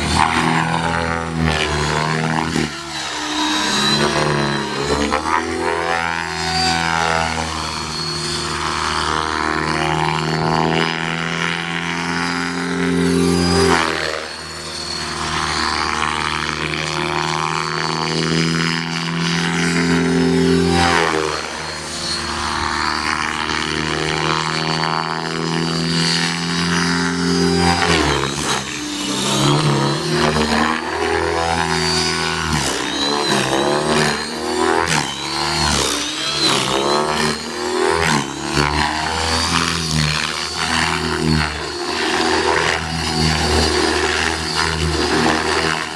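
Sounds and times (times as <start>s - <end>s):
motor whine: 0.0s - 45.9s
rc helicopter rotor hum: 0.0s - 45.9s.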